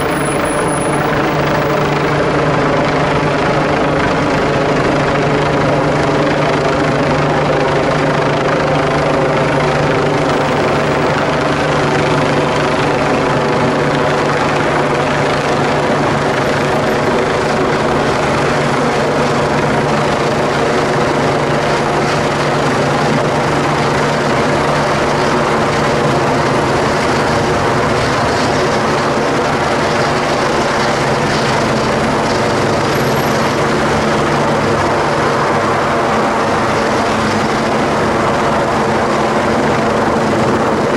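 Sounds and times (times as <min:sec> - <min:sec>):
helicopter hovering: 0:00.0 - 0:40.9.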